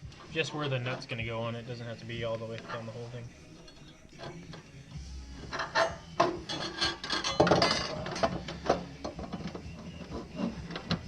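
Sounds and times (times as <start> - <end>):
metal tools clinking and scraping: 0.0 - 4.8, 5.4 - 11.0.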